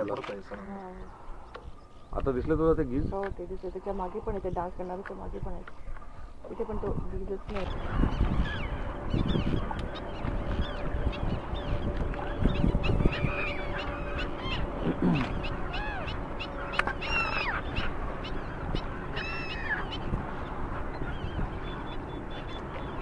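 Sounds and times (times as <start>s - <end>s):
waterbirds calling: 0.0s - 23.0s.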